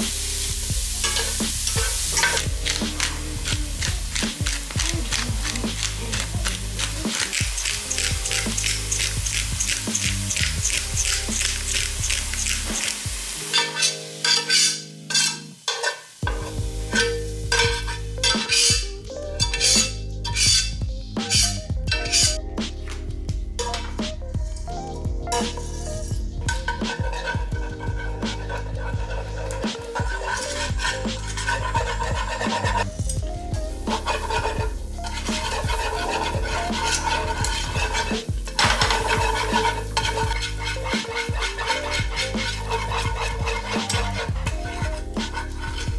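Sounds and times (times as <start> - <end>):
background music: 0.0 - 45.9
food sizzling: 0.0 - 45.9
spoon scraping frying pan: 0.1 - 22.4, 25.3 - 32.9, 33.8 - 45.9.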